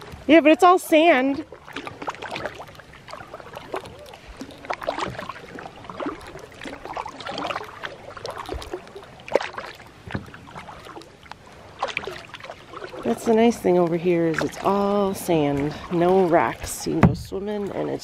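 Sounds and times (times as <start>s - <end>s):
kayak paddle pulling through water: 0.0s - 18.0s
water splashes and drips: 0.0s - 18.0s.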